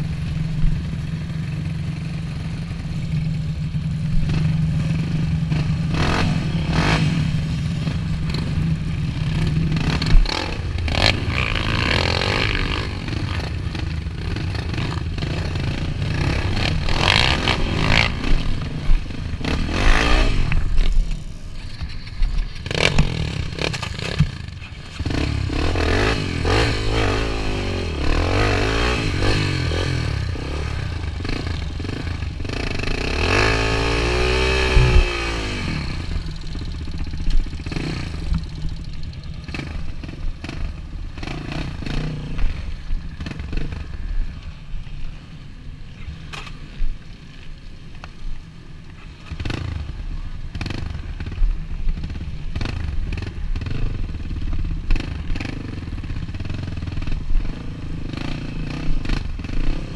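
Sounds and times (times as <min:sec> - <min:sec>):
motorcycle engine revving: 0:00.0 - 0:44.4, 0:49.2 - 0:59.9.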